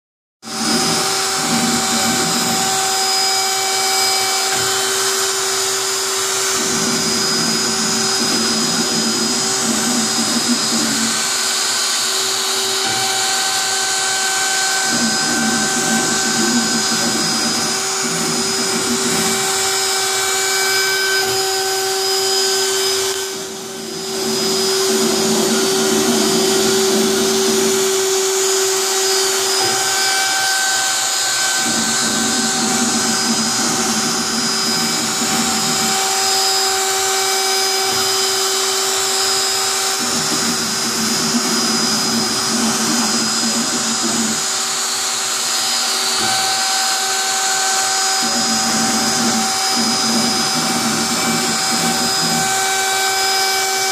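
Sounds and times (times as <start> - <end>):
cutting foam noise: 0.4 - 53.9
router motor whine: 0.4 - 53.9.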